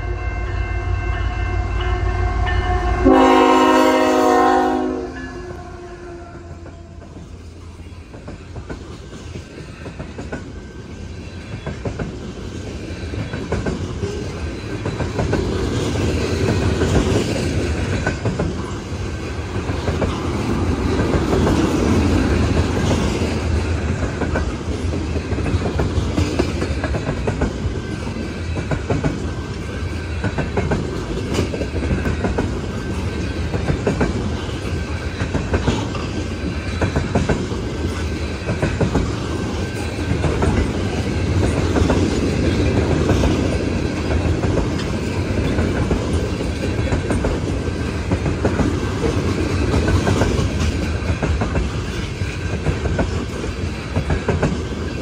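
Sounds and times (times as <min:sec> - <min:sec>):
train wheels rumbling on rails: 0:00.0 - 0:55.0
clickety-clack over rail joints: 0:06.4 - 0:55.0.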